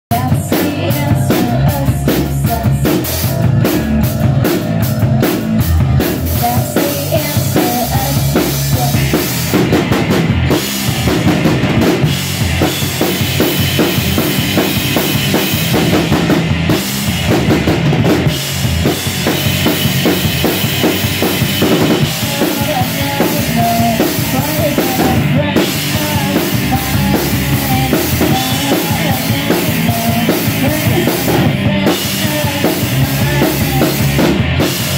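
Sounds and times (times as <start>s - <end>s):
punk rock band playing: 0.1s - 34.9s.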